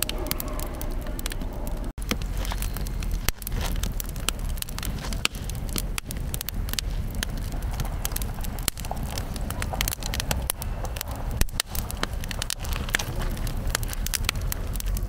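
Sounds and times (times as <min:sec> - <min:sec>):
campfire crackling and popping: 0:00.0 - 0:15.0
fire low rumble: 0:00.0 - 0:15.0.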